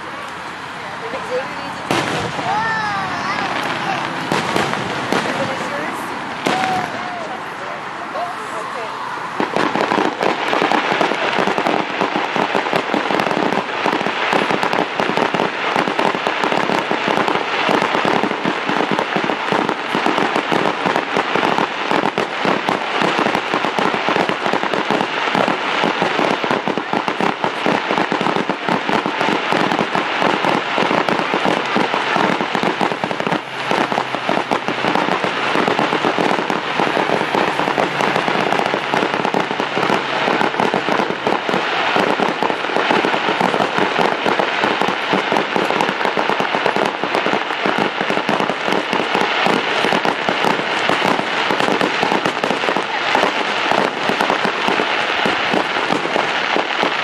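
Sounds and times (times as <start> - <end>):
firecrackers crackling and popping: 0.0 - 57.0.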